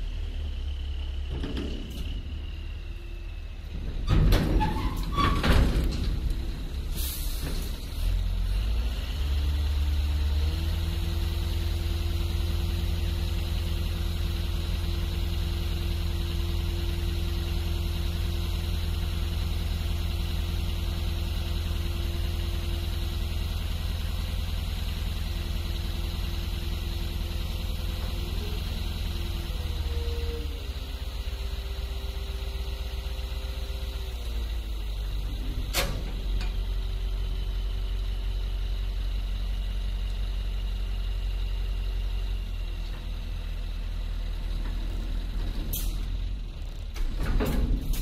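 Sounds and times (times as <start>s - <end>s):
diesel truck engine revving: 0.0s - 48.0s.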